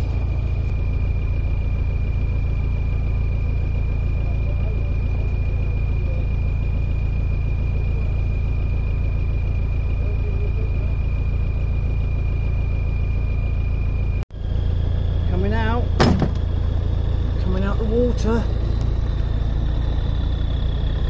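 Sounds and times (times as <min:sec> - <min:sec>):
diesel engine idling: 0:00.0 - 0:21.0
thin steady whine: 0:00.0 - 0:21.0.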